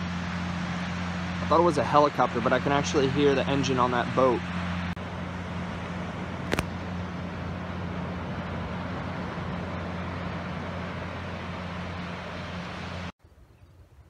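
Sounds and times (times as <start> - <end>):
surf wash: 0.0 - 13.1
boat engine droning: 0.0 - 13.2.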